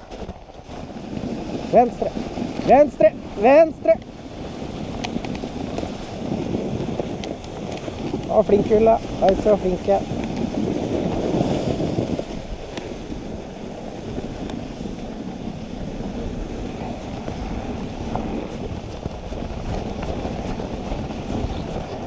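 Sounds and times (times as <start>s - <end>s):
sled runners sliding on snow: 0.0s - 22.0s
wind buffeting microphone: 0.0s - 22.0s.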